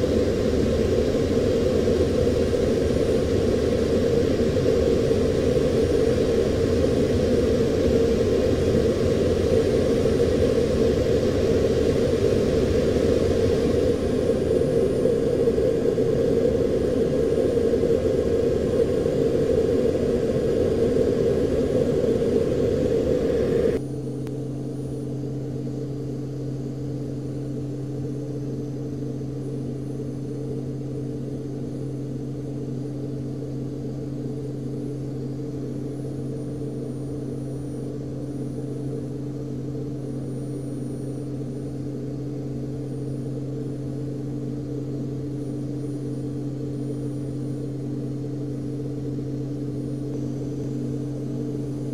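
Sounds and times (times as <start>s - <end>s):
aircraft cockpit drone: 0.0s - 51.9s
low steady hum: 0.0s - 51.9s.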